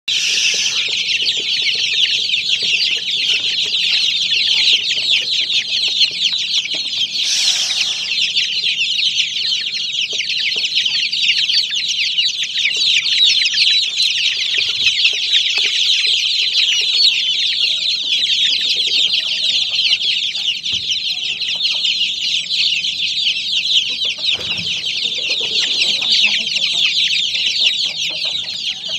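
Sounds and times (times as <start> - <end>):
chicks peeping: 0.1 - 28.9.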